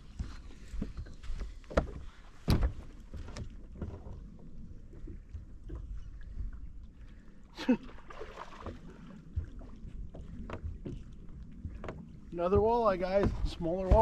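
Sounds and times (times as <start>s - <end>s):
knocks and handling in boat: 0.0s - 14.0s.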